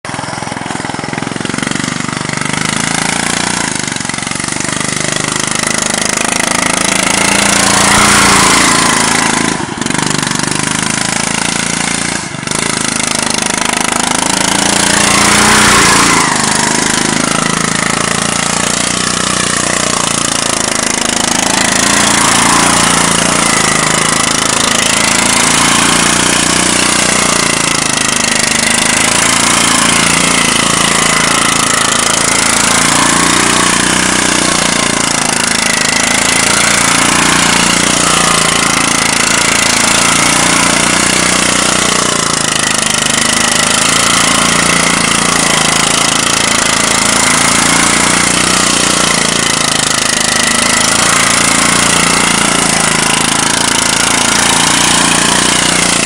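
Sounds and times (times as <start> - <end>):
riding lawn mower engine: 0.0 - 56.0.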